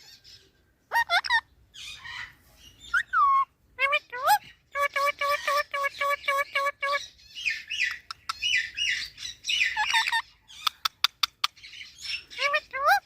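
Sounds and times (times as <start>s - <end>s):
parrot calling: 0.0s - 13.0s.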